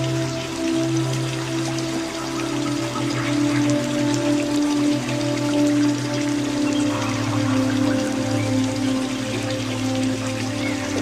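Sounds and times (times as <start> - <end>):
soft background music: 0.0 - 11.0
steady rain falling: 0.0 - 11.0.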